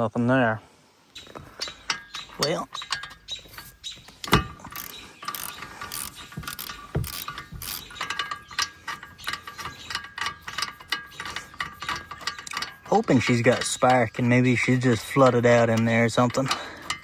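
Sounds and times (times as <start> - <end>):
socket ratchet clicking: 1.2 - 17.0.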